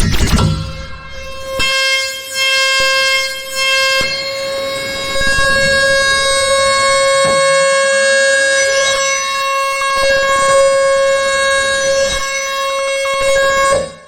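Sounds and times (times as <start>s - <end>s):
dense piano notes droning: 0.0s - 12.7s.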